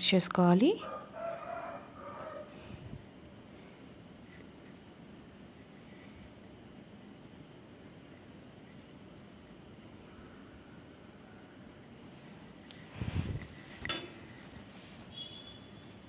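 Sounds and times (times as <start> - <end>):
cricket chirping: 0.0 - 16.0
background hiss: 1.4 - 16.0.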